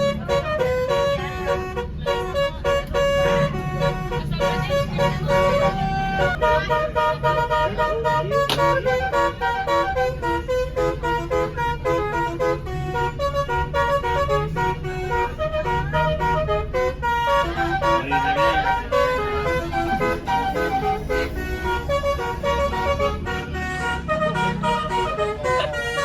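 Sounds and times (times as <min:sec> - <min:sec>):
bus engine running: 0:00.0 - 0:26.0
multi-tone bus horn tune: 0:00.0 - 0:26.0.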